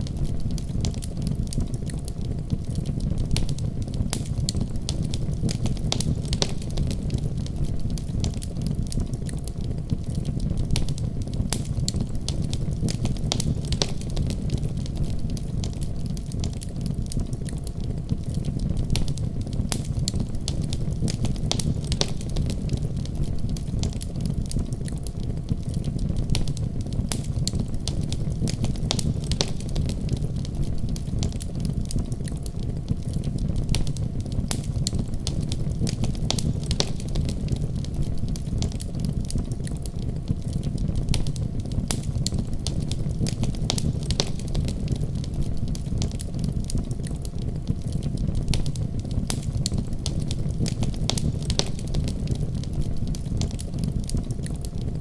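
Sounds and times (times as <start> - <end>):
low rumble of flames: 0.0 - 55.0
wood fire crackling: 0.0 - 55.0
sharp pops and snaps: 0.1 - 55.0.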